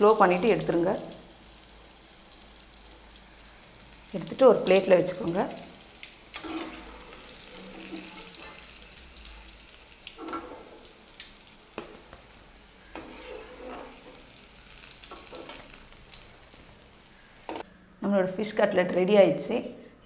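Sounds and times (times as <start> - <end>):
hot oil sizzling: 0.0 - 17.6.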